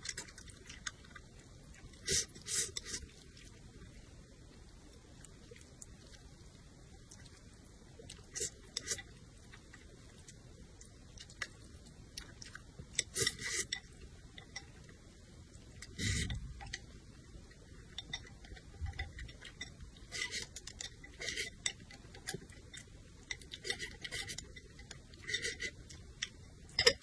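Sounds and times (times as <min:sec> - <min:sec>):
person chewing noodles: 0:00.0 - 0:16.9, 0:17.5 - 0:27.0.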